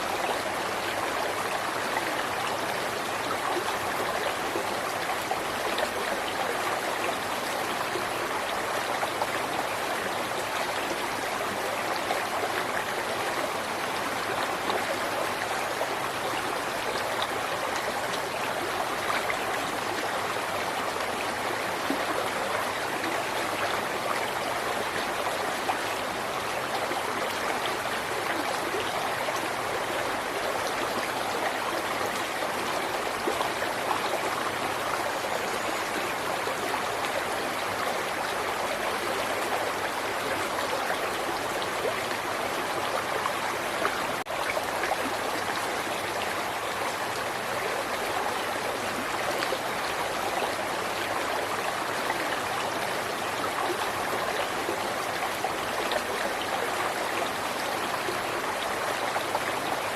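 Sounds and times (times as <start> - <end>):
river water babbling over rocks: 0.0 - 59.9.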